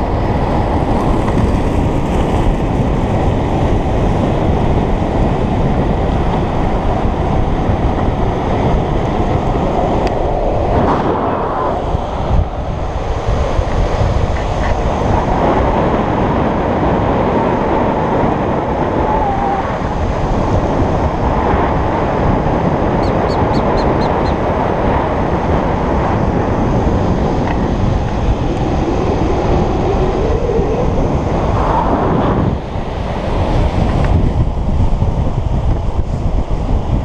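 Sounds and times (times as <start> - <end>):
skateboard wheels rolling on asphalt: 0.0 - 37.0
wind rushing on microphone: 0.0 - 37.0.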